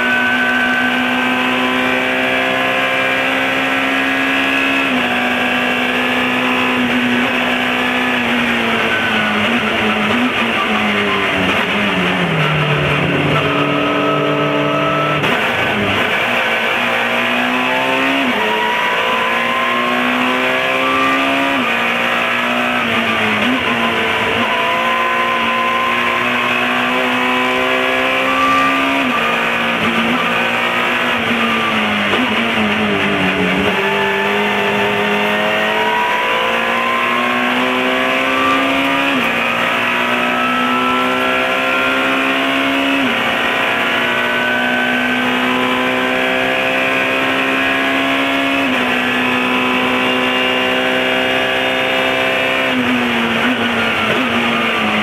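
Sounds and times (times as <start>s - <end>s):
race car engine revving through gears: 0.0s - 55.0s.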